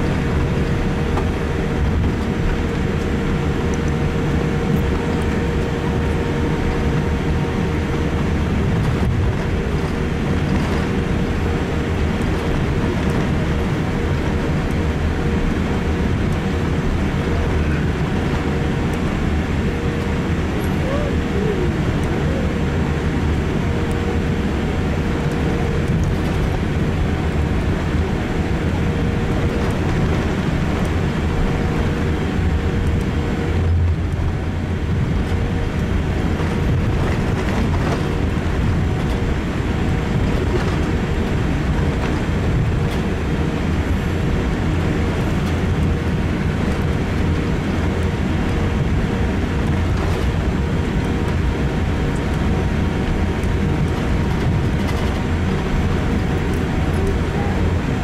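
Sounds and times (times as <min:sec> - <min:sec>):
airliner cabin rumble and hum: 0:00.0 - 0:58.0.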